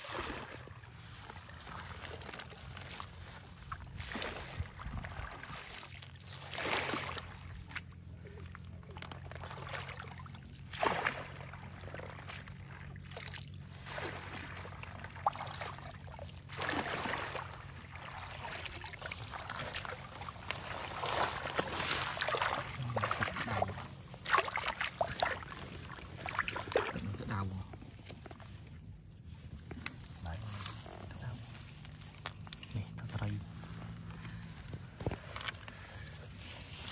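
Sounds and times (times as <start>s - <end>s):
water sloshing and splashing: 0.0s - 36.9s.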